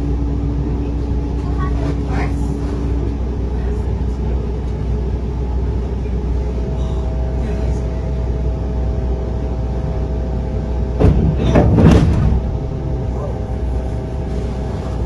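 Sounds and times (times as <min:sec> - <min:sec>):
train coach rumbling on track: 0:00.0 - 0:15.0.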